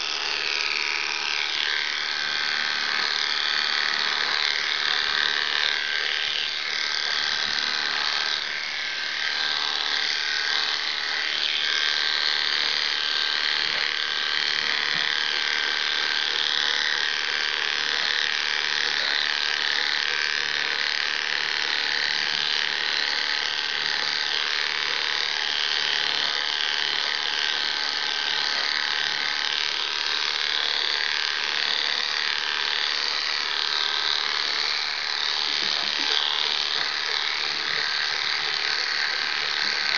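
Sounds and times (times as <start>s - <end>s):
electric clippers buzzing: 0.0s - 39.9s.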